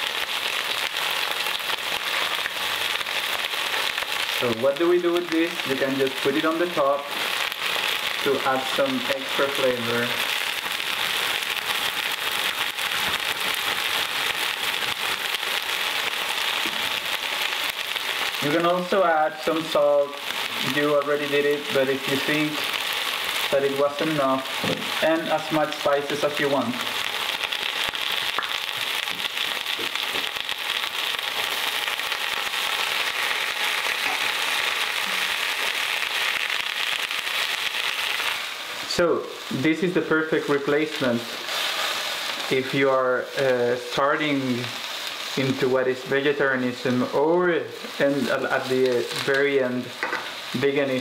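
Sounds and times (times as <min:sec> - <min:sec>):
food sizzling in hot oil: 0:00.0 - 0:51.0.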